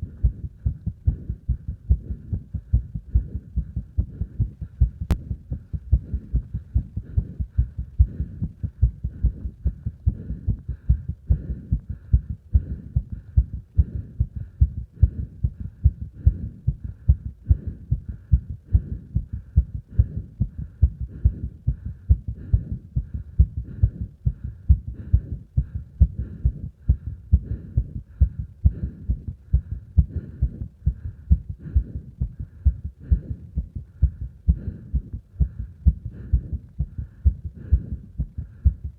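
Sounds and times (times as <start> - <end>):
heartbeat thuds: 0.0 - 38.9
heavy breathing: 0.0 - 38.9.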